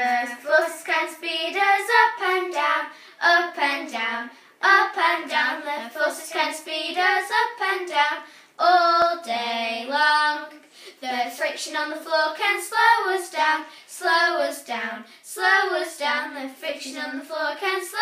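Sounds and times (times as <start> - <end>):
girls singing unaccompanied: 0.0 - 18.0.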